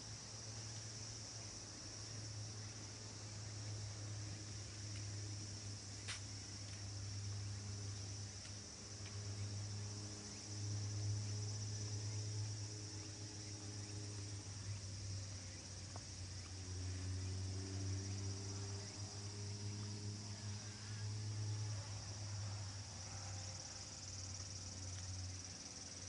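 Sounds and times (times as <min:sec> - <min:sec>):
insects chirring: 0:00.0 - 0:26.0
low steady hum: 0:00.0 - 0:26.0.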